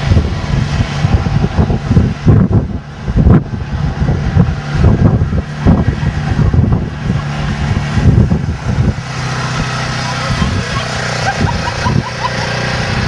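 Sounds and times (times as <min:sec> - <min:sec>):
engine hum: 0:00.0 - 0:13.0
wind buffeting microphone: 0:00.0 - 0:13.0.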